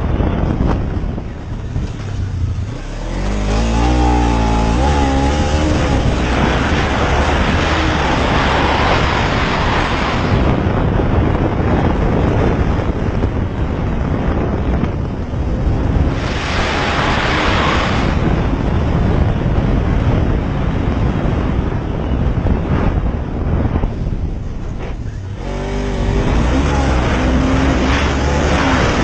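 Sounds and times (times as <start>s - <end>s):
motorcycle engine rumble: 0.0s - 29.0s
road noise: 0.0s - 29.0s
wind buffeting microphone: 0.0s - 29.0s.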